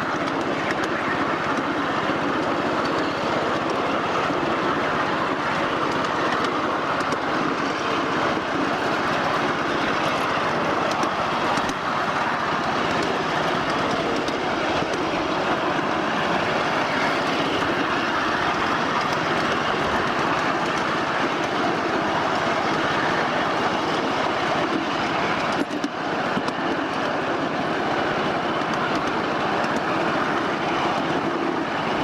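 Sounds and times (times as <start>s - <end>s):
miniature steam train wheels on rails: 0.0s - 32.0s.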